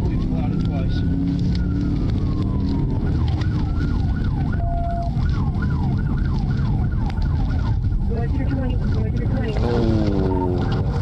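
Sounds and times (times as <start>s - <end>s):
car engine at speed: 0.0s - 11.0s
police siren yelping: 0.0s - 11.0s
road noise: 0.0s - 11.0s.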